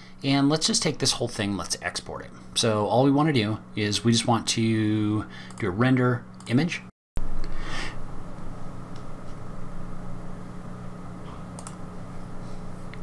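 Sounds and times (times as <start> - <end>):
electrical hum with fan hiss: 0.0 - 13.0.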